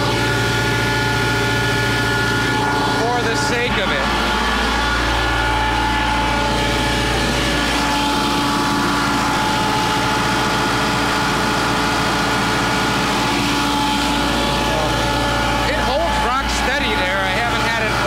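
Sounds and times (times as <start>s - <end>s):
diesel air compressor running: 0.0s - 18.0s.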